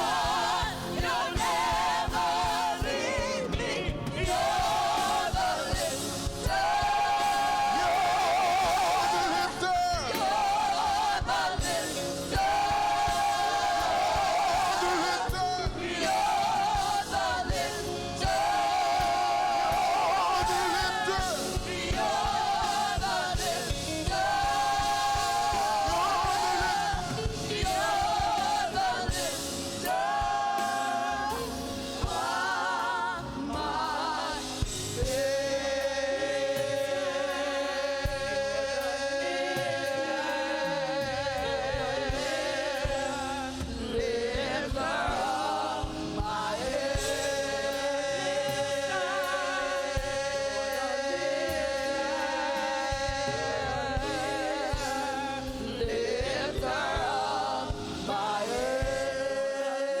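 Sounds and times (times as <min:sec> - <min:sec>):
band playing: 0:00.0 - 1:00.0
gospel choir singing: 0:00.0 - 1:00.0.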